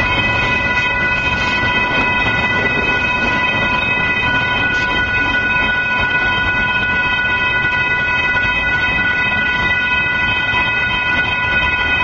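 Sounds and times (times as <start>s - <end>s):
freight train rumbling: 0.0s - 12.0s
railroad crossing signal ringing: 0.0s - 12.0s.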